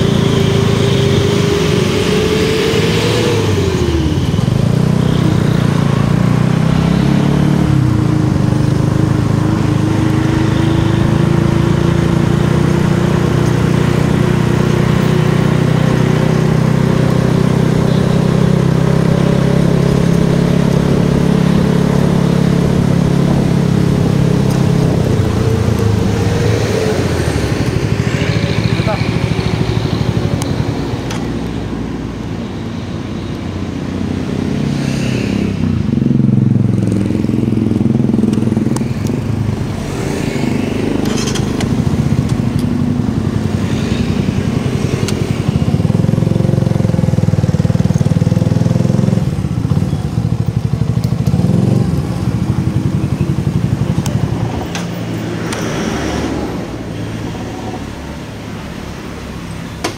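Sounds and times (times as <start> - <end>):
motorcycle engine running: 0.0 - 32.5, 35.4 - 55.6.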